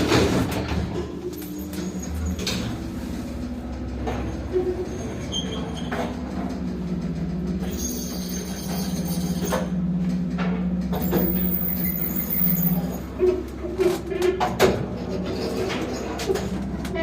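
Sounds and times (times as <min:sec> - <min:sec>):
lift humming: 0:00.0 - 0:17.0.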